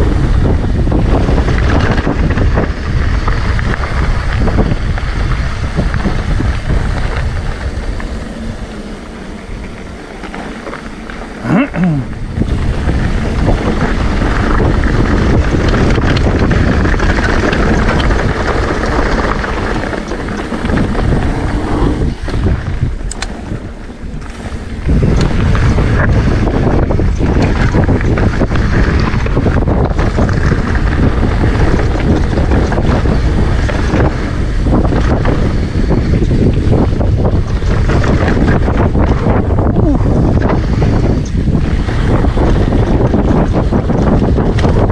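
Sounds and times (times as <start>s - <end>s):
bike knocks and rattles: 0.0s - 11.5s, 12.2s - 44.9s
tyres rumbling on gravel trail: 0.0s - 44.9s
wind buffeting microphone: 0.0s - 44.9s.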